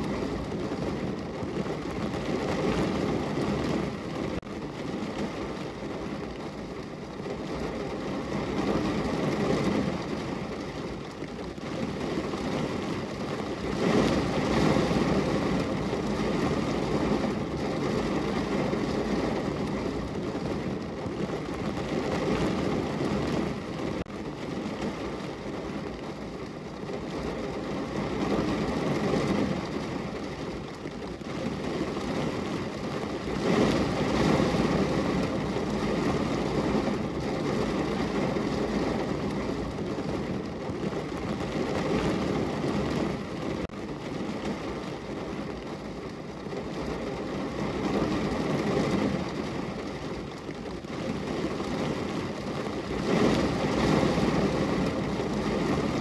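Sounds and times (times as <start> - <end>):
faint raindrop ticks: 0.0 - 56.0
rain on a window: 0.0 - 56.0.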